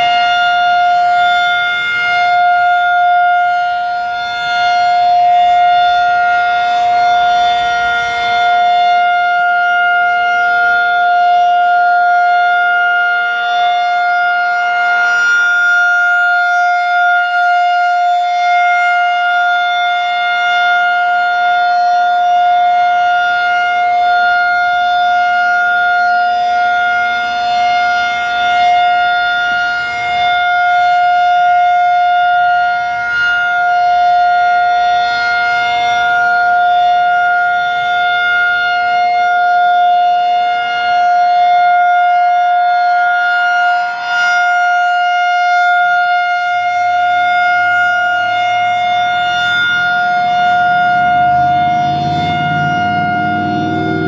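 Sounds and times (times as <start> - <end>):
electronic siren steady tone: 0.0 - 54.0.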